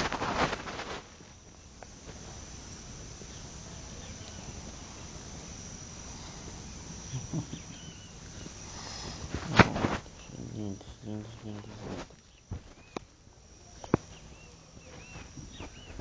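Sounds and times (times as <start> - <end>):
loud rustle: 0.0 - 13.0
crickets chirring: 0.0 - 16.0.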